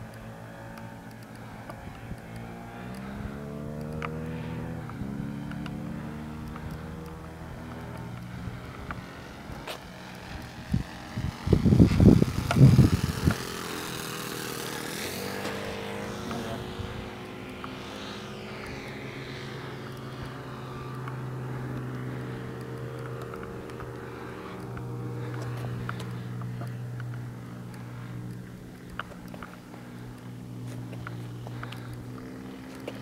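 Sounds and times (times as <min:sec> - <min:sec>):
model airplane engine droning: 0:00.0 - 0:33.0.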